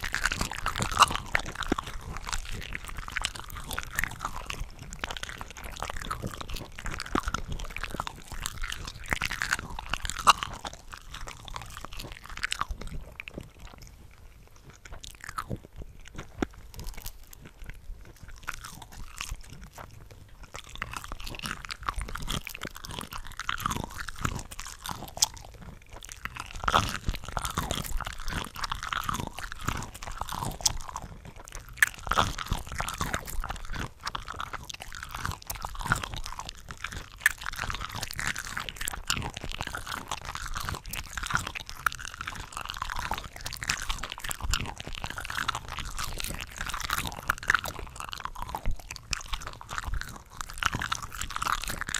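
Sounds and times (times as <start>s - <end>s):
biting and chewing shrimp: 0.0s - 51.9s.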